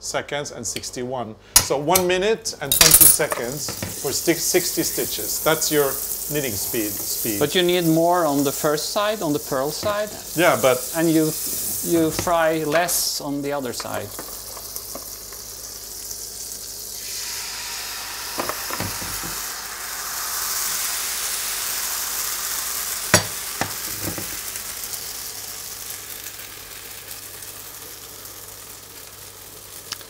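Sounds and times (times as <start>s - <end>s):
batter sizzling in frying pan: 3.2s - 30.0s.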